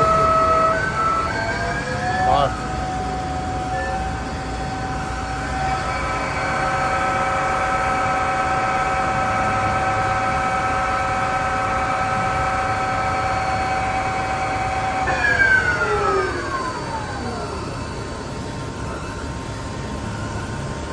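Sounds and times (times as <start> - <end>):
lathe spindle whine winding down: 0.0 - 20.9.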